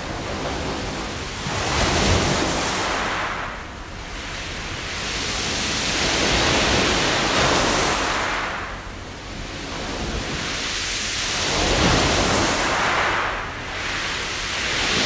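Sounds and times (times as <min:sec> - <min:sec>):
waves washing over a beach: 0:00.0 - 0:15.0.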